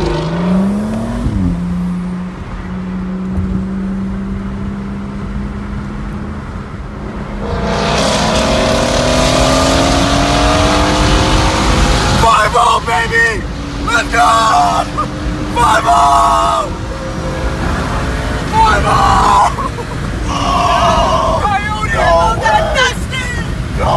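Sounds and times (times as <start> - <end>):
car engine accelerating: 0.0 - 21.4
wind and tyre noise: 0.0 - 23.9.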